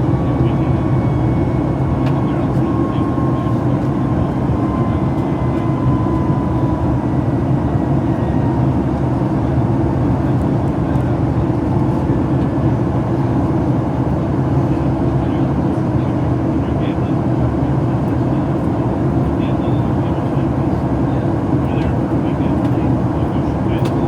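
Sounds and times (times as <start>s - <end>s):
airplane cabin rumble: 0.0s - 24.0s.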